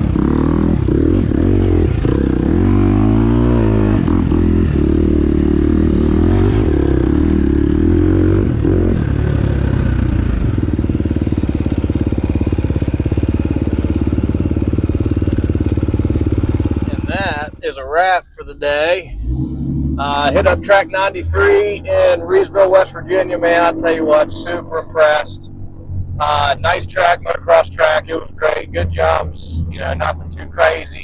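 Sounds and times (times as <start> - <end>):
dirt bike engine: 0.0 - 31.0.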